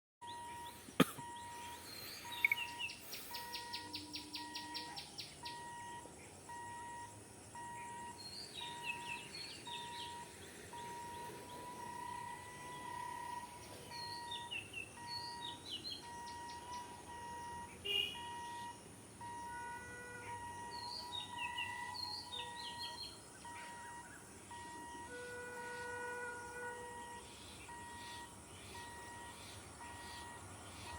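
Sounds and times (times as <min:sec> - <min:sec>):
birds chirping: 0:00.2 - 0:30.9.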